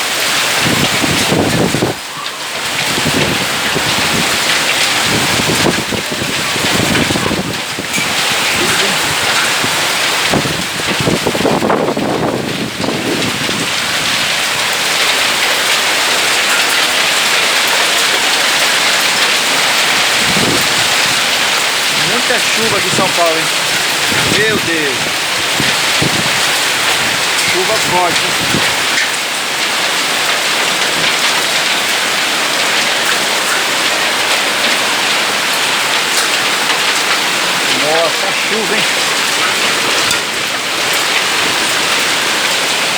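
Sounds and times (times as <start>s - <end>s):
wind rumbling on microphone: 0.0s - 16.7s, 18.8s - 42.9s
heavy rain and hail: 0.0s - 42.9s.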